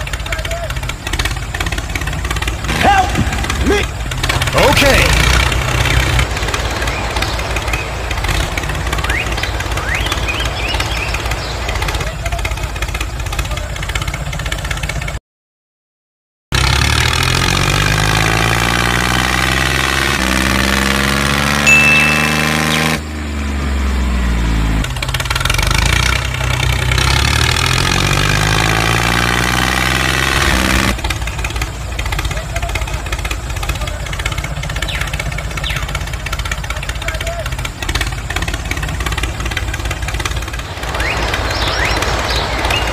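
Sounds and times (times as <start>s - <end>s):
engine running: 0.0s - 15.2s, 16.6s - 42.9s.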